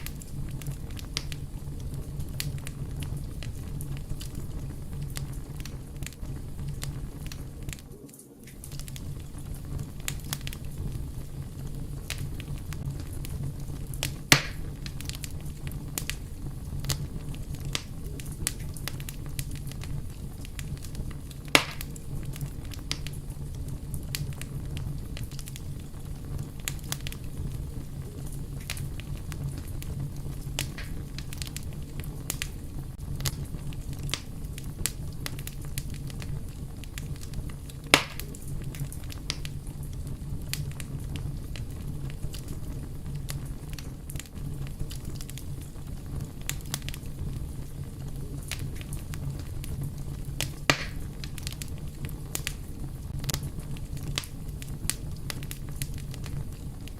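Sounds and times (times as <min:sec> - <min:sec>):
fire crackling: 0:00.0 - 0:56.9
sharp pops from fire: 0:00.0 - 0:56.9.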